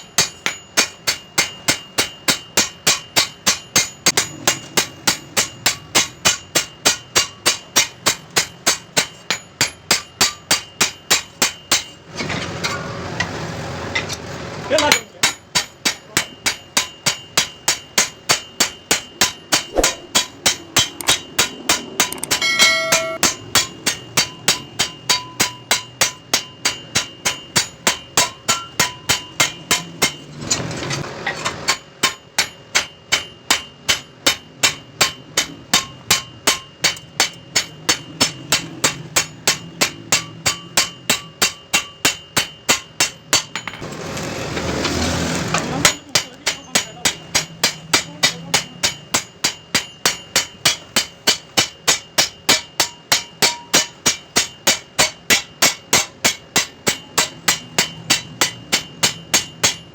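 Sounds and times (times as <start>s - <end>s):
hammer beating steel blade: 0.0s - 12.0s, 14.0s - 43.9s, 45.4s - 59.9s.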